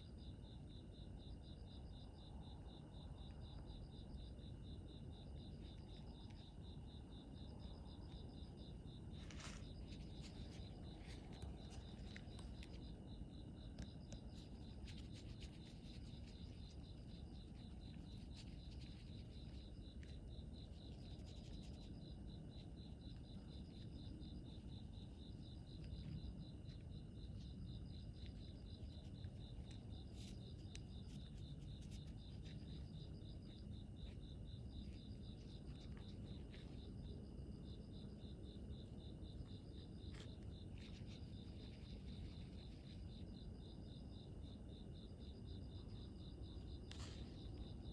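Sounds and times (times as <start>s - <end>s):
insects chirping in trills: 0.0s - 47.9s.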